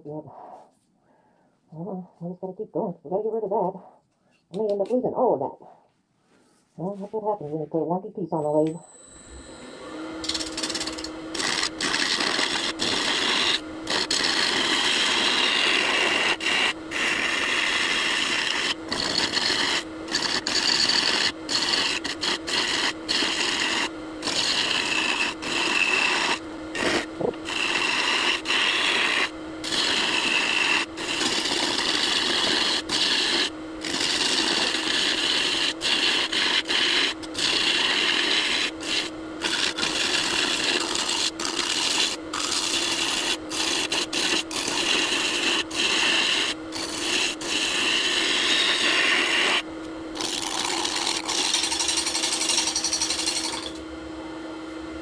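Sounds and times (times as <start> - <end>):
turning tool cutting wood: 9.1 - 53.8
wood lathe humming: 9.1 - 54.3.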